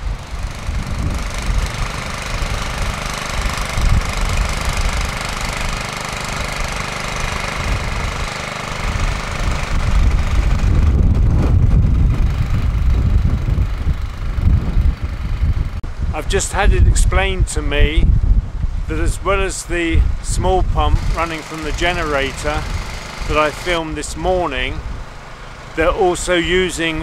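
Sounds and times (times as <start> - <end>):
generator engine running: 0.0 - 27.0.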